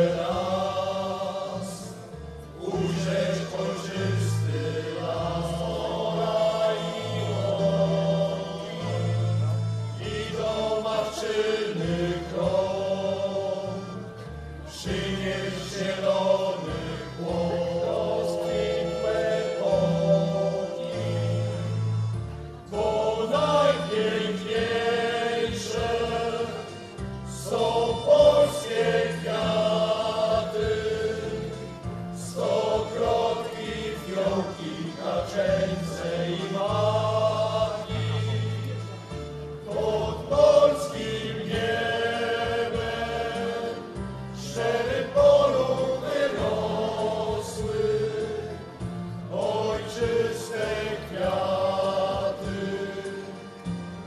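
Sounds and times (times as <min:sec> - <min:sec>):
choir singing: 0:00.0 - 0:54.0
instrumental accompaniment with bass: 0:00.0 - 0:54.0.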